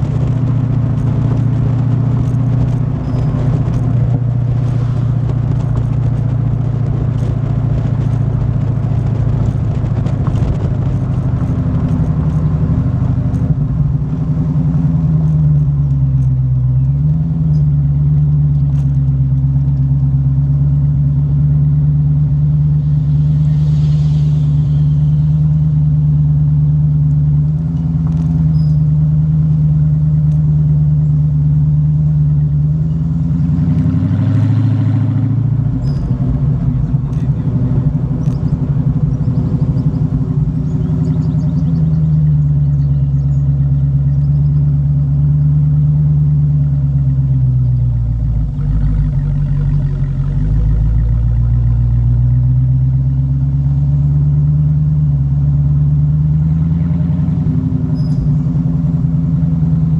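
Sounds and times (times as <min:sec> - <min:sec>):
car exhaust droning: 0:00.0 - 0:59.9.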